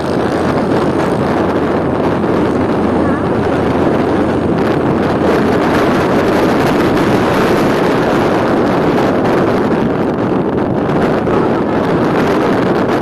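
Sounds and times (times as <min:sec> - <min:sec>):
scooter engine running: 0:00.0 - 0:12.2.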